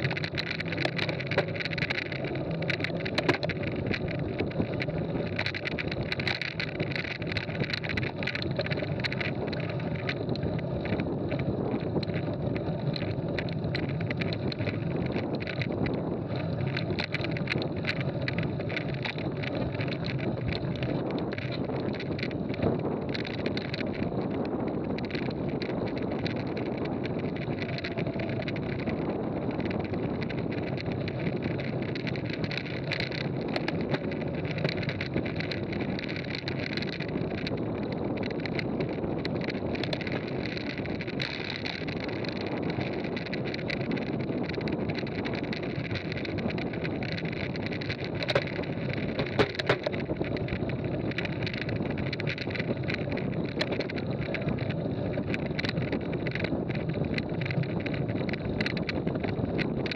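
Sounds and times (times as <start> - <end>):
bike rattling over bumps: 0.0 - 59.9
tyre noise on gravel: 0.0 - 59.9
wind on the microphone: 0.0 - 59.9.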